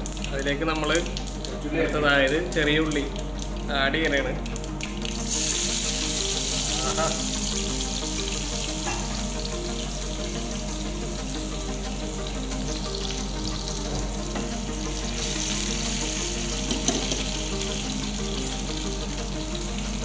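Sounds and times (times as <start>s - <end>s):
background music: 0.0s - 20.0s
shallots sizzling in hot oil: 0.0s - 20.0s.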